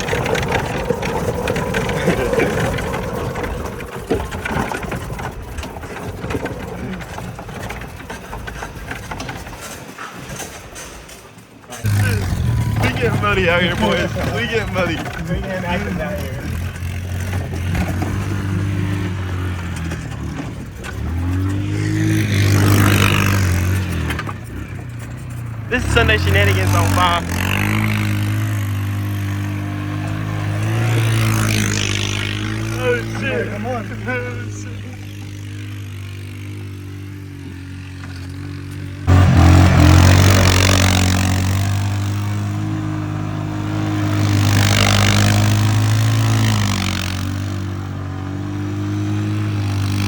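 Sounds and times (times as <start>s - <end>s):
vehicle engine revving: 0.0s - 10.8s, 11.7s - 50.0s.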